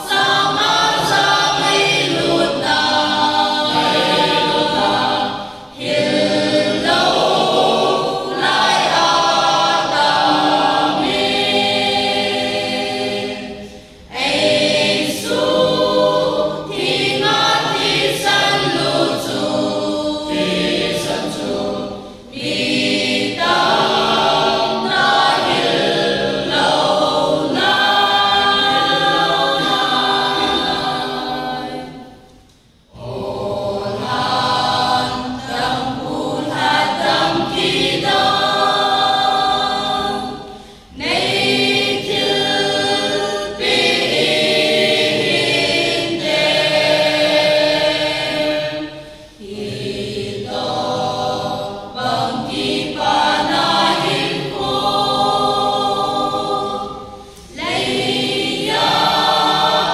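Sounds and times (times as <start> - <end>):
mixed choir singing a hymn: 0.0 - 59.9.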